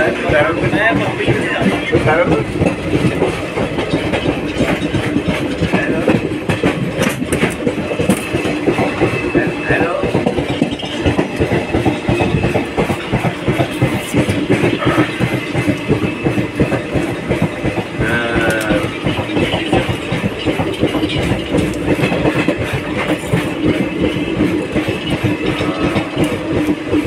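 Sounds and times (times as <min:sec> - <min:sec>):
train rumble: 0:00.0 - 0:27.0
wheels rattling on rails: 0:00.0 - 0:27.0.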